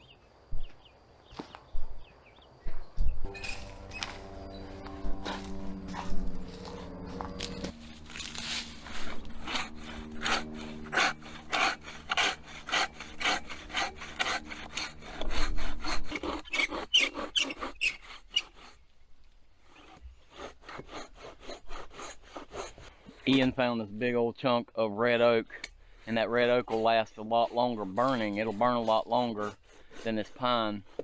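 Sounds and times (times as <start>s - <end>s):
hand saw cutting log: 3.3s - 23.6s, 25.5s - 31.0s.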